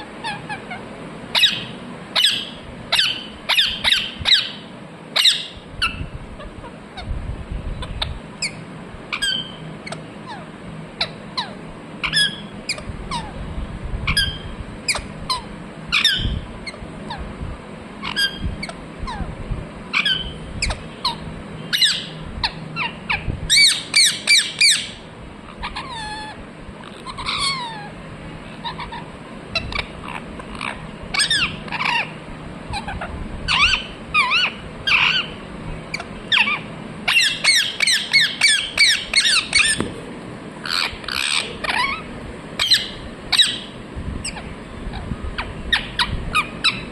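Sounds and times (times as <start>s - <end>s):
parrot chirping calls: 0.0s - 7.2s, 7.8s - 13.4s, 14.0s - 17.3s, 18.0s - 19.3s, 19.9s - 39.9s, 40.6s - 46.9s.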